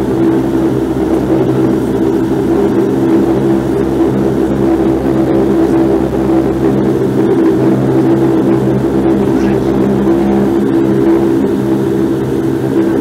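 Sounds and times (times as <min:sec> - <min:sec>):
engine rush: 0:00.0 - 0:13.0
propeller drone in cabin: 0:00.0 - 0:13.0.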